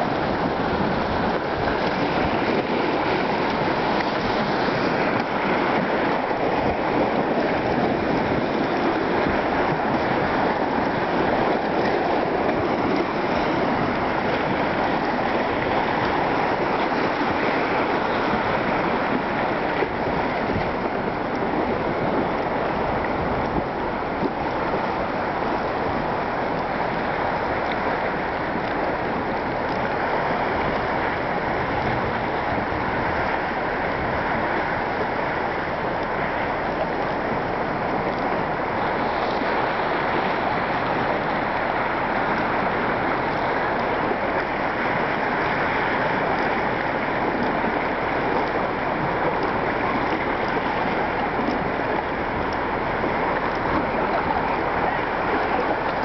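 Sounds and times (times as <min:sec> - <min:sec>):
waves lapping on rocky shore: 0:00.0 - 0:56.0
wind: 0:00.0 - 0:56.0.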